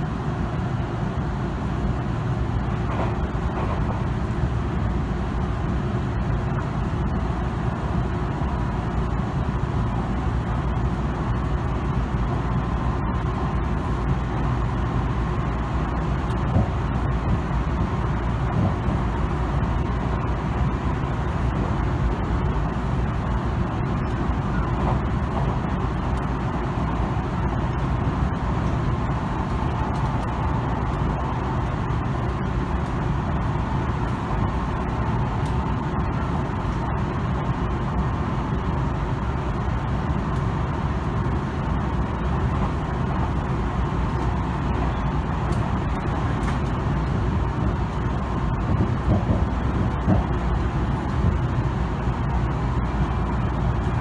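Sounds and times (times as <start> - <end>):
train wheels rumbling on rails: 0.4 - 54.0.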